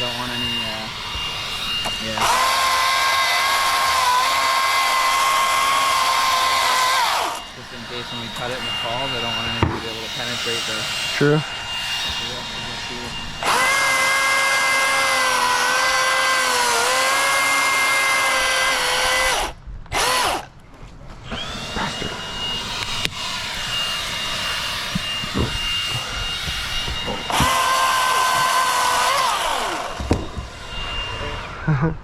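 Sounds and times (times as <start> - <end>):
electric chainsaw whining: 0.0 - 32.0.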